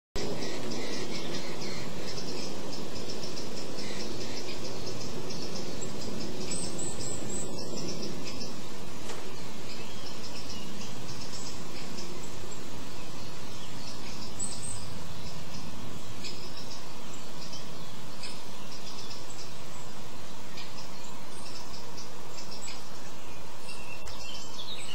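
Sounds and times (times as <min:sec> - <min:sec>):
low background rumble: 0:00.2 - 0:24.9
songbirds chirping: 0:00.2 - 0:24.9.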